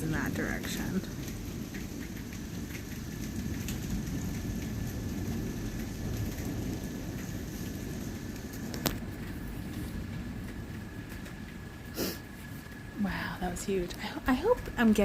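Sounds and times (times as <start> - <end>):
low continuous thunder rumble: 0.0 - 15.0
steady rain falling: 0.0 - 15.0.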